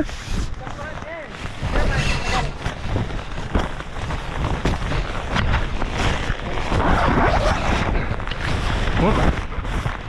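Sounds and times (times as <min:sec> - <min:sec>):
tent fabric flapping and snapping: 0:00.0 - 0:10.0
wind gusts buffeting microphone: 0:00.0 - 0:10.0.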